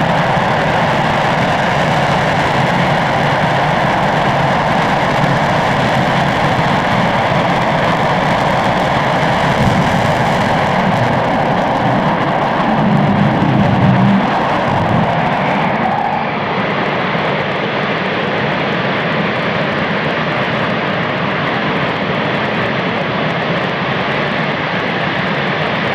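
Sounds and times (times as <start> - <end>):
rocket engine roaring: 0.0 - 25.9.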